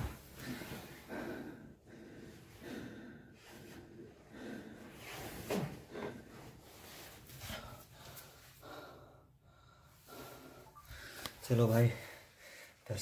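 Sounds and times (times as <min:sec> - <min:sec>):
man breathing heavily: 0:00.0 - 0:12.9.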